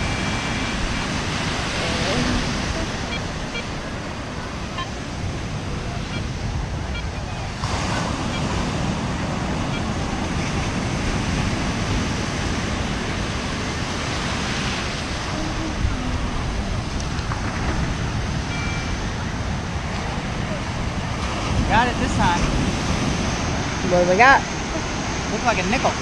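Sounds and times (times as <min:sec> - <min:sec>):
ocean surf washing on beach: 0:00.0 - 0:26.0
wind on microphone: 0:00.0 - 0:26.0.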